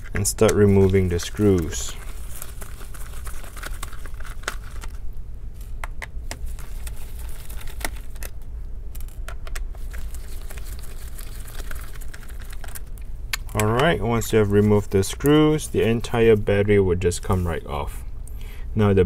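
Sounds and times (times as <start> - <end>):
hands handling parts: 0.0 - 16.6
low steady hum: 0.0 - 19.0.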